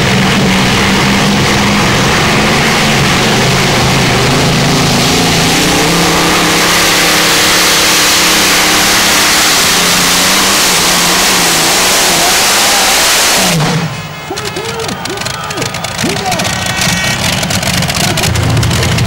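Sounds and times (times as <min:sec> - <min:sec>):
pulling tractor engines roaring: 0:00.0 - 0:19.0.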